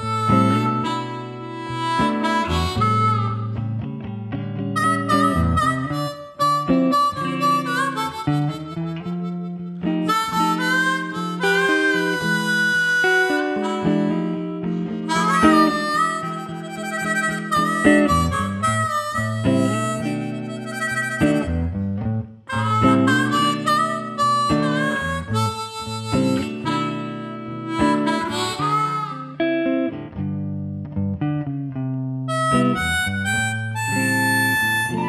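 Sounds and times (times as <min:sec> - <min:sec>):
harmonica lead line: 0:00.0 - 0:30.1, 0:32.3 - 0:35.0
hollow-body guitar chords: 0:00.0 - 0:35.0.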